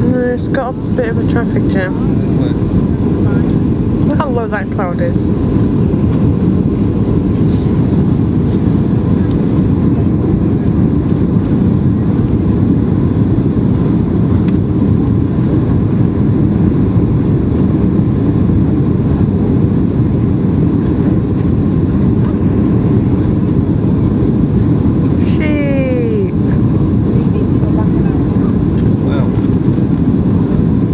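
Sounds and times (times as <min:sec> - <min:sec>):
airplane cabin roar: 0:00.0 - 0:30.9.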